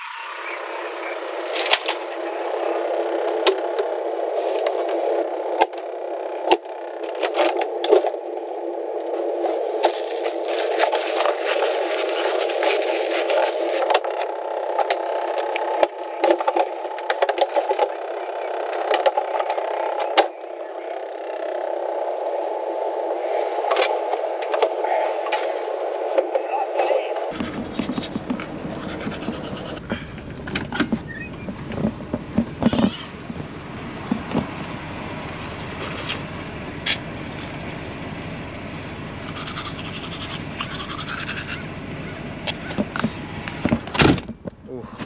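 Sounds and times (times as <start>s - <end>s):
steady muffled hum: 0.0s - 45.0s.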